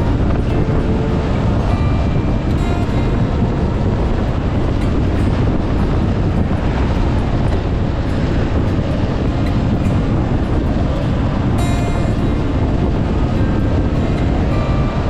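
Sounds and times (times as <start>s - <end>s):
heavy wind on microphone: 0.0s - 15.0s.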